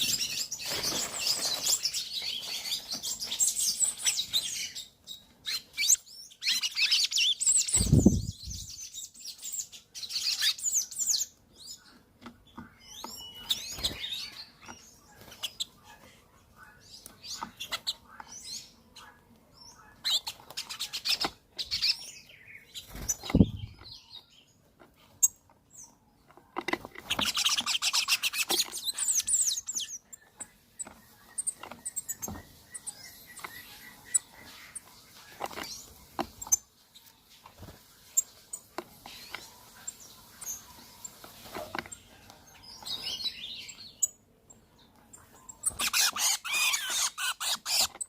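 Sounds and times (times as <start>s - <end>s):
birds chirping and calling: 0.0s - 48.0s.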